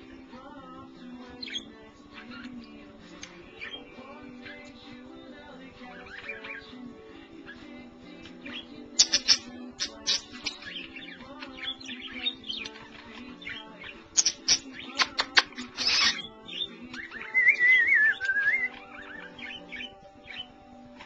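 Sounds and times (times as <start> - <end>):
music: 0.0 - 21.0
budgerigars chattering and warbling: 1.3 - 20.7.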